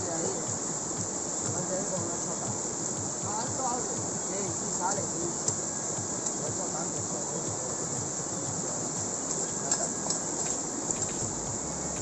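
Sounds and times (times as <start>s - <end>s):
fast-flowing stream rushing: 0.0s - 12.0s.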